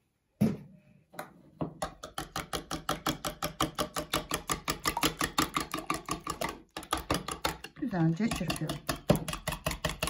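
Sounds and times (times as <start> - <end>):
whisk clicking against bowl: 1.9 - 10.0.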